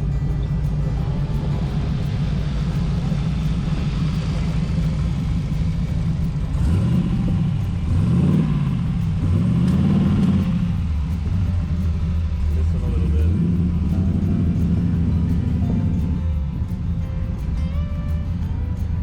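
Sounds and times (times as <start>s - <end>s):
car engines rumbling past: 0.0s - 19.0s
car accelerating through gears: 0.7s - 16.2s.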